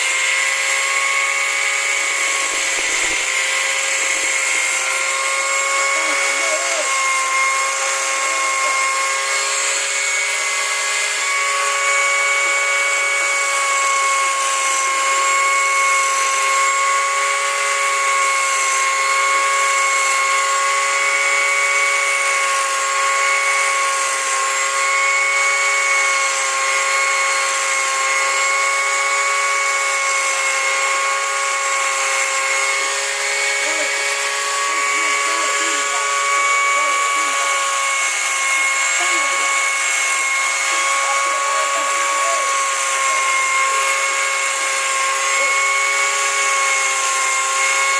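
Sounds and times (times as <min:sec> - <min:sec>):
electric grinder whining: 0:00.0 - 0:47.9.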